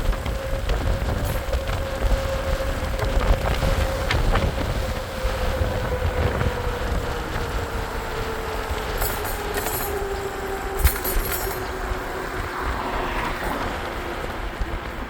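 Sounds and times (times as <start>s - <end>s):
vehicle drive hum: 0.0s - 15.0s
wind buffeting microphone: 0.0s - 15.0s.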